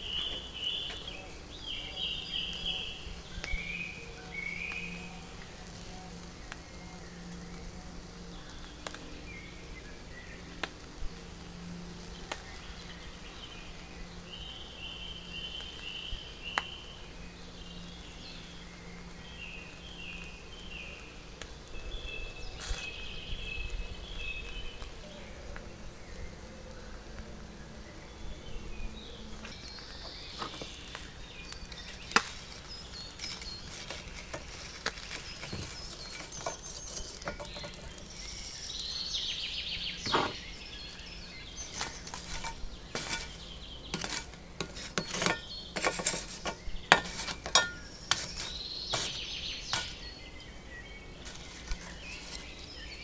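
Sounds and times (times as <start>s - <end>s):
sharp crackles: 0.0s - 53.0s
songbirds chirping: 0.0s - 53.0s.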